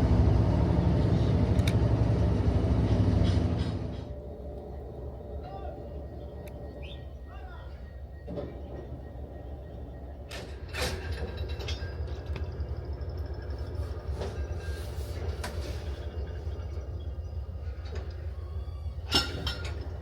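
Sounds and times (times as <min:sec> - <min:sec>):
railway carriage low rumble: 0:00.0 - 0:20.0.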